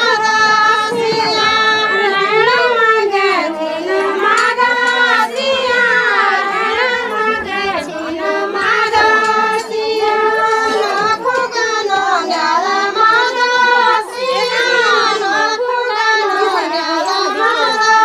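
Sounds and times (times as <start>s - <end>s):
women singing folk song in chorus: 0.0s - 18.0s.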